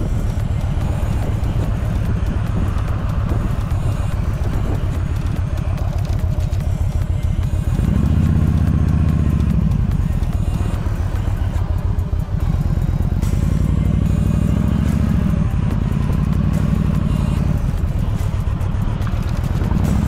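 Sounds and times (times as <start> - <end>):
background music: 0.0 - 20.0
motorcycle engine running: 0.0 - 20.0.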